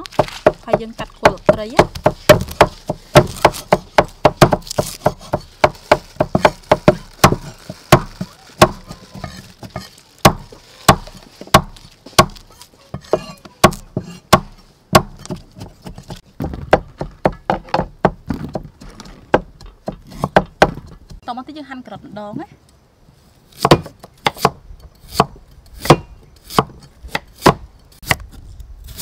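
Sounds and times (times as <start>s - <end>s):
cleaver chopping on wooden block: 0.1s - 12.4s, 13.0s - 18.7s, 19.3s - 21.2s, 23.6s - 28.4s.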